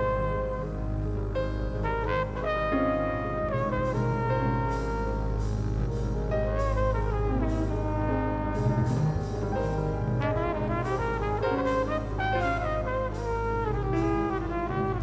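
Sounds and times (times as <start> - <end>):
brass horn melody: 0.0 - 15.0.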